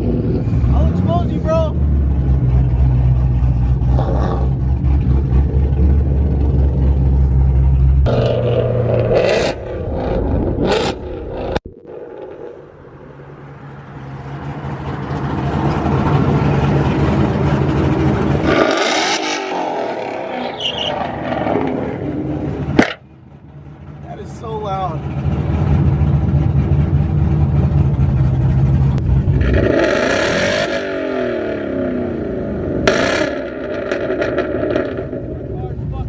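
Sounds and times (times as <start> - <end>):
car engine rumbling: 0.0 - 36.0.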